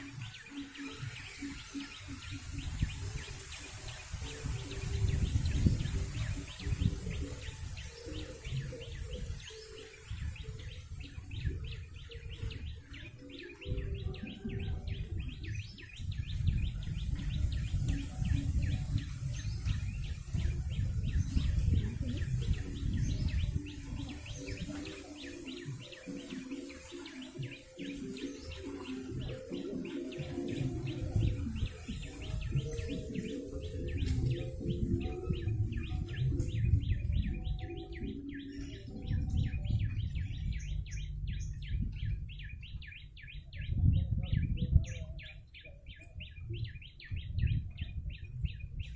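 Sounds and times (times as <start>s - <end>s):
bird chirping rapidly: 0.0s - 48.9s.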